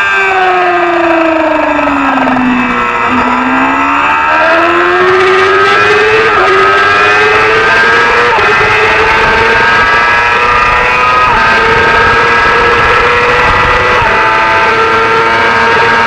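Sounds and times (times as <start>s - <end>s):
racing motorcycle engine: 0.0s - 16.0s.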